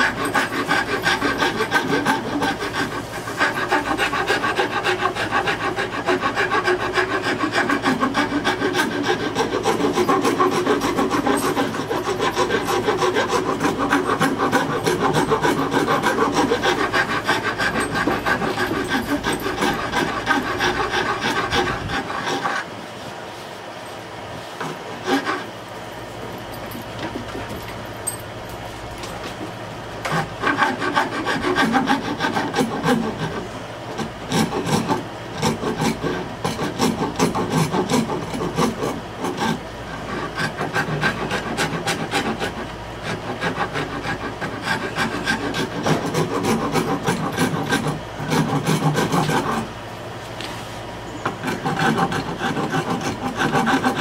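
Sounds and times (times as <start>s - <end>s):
rasp filing wood: 0.0s - 22.8s, 24.4s - 25.6s, 30.0s - 49.8s, 50.5s - 54.0s.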